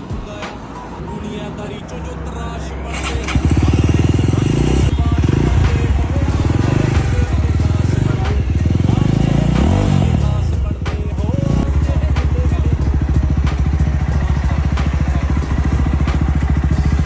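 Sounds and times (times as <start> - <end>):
loud motorcycle exhaust: 2.9 - 17.0.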